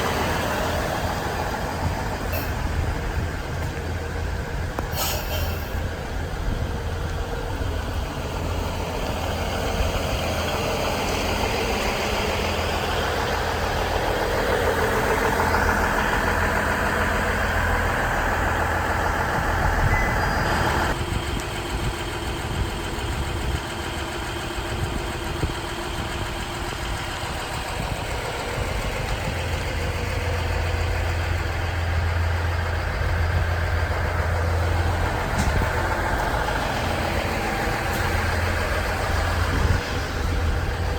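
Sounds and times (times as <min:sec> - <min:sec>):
diesel railcar engine humming: 0:00.0 - 0:40.9.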